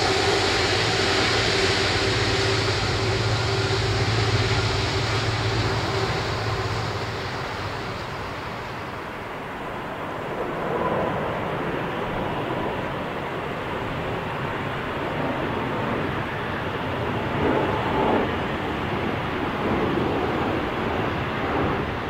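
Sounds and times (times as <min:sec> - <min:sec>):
jet engine rushing: 0:00.0 - 0:22.0.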